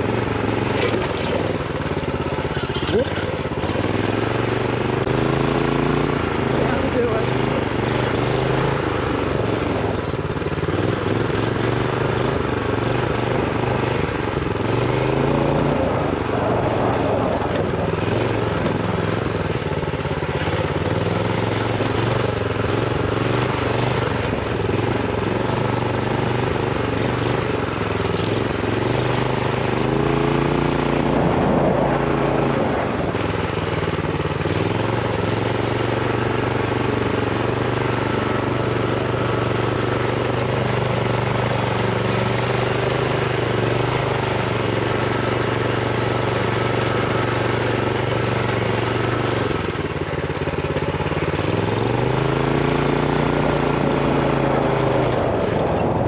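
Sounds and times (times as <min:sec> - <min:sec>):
minibike engine revving: 0:00.0 - 0:56.0.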